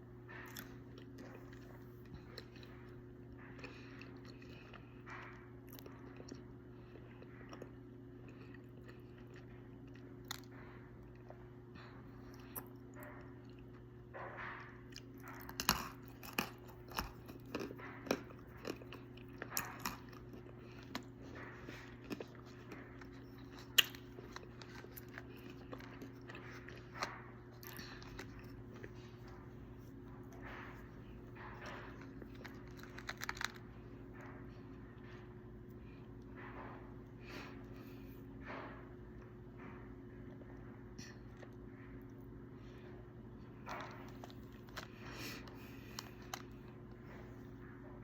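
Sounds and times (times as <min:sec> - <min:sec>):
steady low hum: 0:00.0 - 0:48.0
chalk crunching while chewed: 0:00.3 - 0:14.0, 0:14.6 - 0:36.2, 0:43.6 - 0:47.2.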